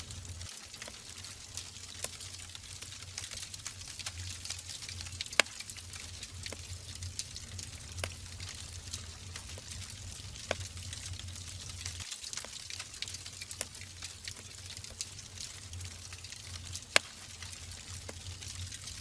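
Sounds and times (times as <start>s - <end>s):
fire crackles and pops: 0.0s - 19.0s
wood fire burning: 0.0s - 19.0s.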